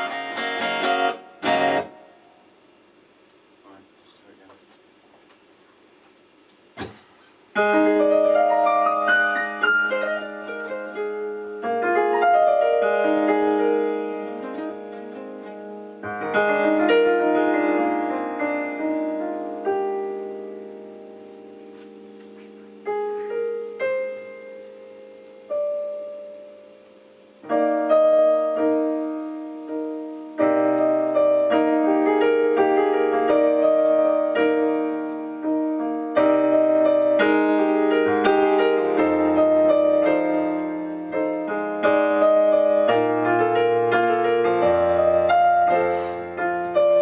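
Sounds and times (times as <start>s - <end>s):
piano notes and chords: 0.0s - 2.5s, 7.5s - 47.0s.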